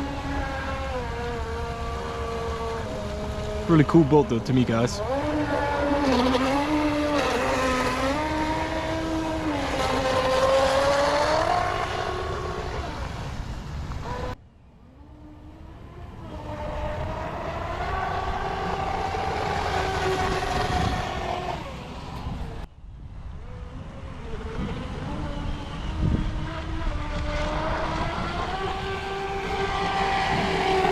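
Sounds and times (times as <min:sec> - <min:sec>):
electric boat motor whining: 0:00.0 - 0:22.7, 0:23.4 - 0:30.9
rush of water and wind: 0:00.0 - 0:30.9.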